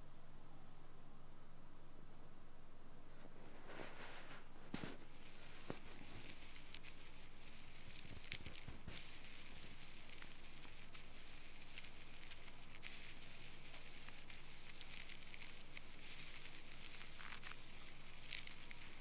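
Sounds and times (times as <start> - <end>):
low hum and hiss: 0.0 - 19.0
ear pick scratching in ear: 3.2 - 19.0.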